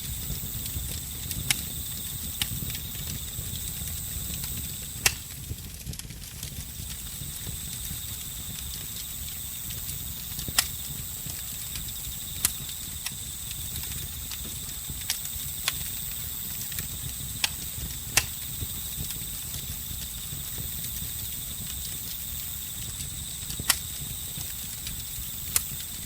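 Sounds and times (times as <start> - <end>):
crickets trilling: 0.0 - 5.6, 6.5 - 26.0
campfire crackling: 0.0 - 26.0
sharp fire pops: 0.0 - 26.0.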